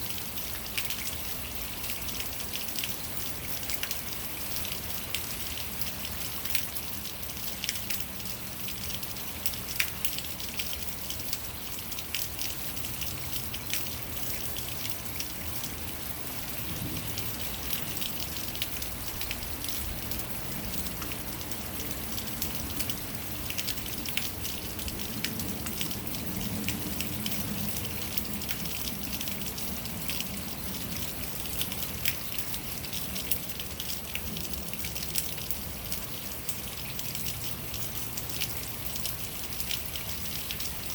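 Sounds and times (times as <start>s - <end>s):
water splashing down rain chain: 0.0s - 40.9s.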